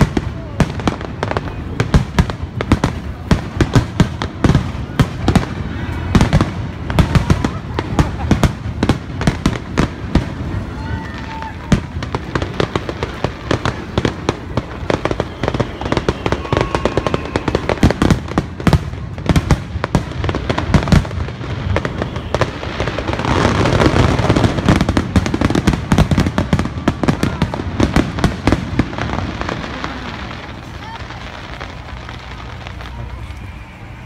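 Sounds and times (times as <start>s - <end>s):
fireworks bursting with sharp bangs: 0.0s - 34.0s.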